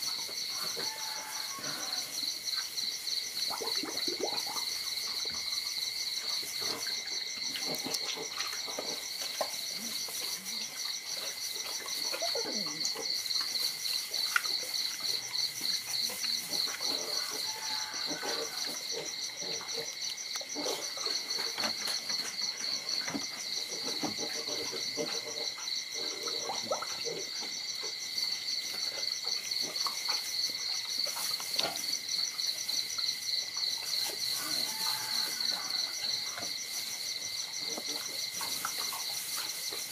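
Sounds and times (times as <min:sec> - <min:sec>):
frogs and insects calling: 0:00.0 - 0:39.9.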